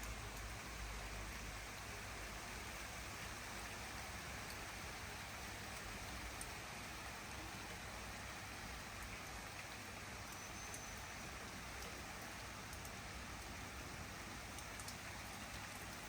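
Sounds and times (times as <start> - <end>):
raindrop ticks: 0.0 - 4.8, 5.4 - 7.9, 8.8 - 16.0
rain falling: 0.0 - 16.0.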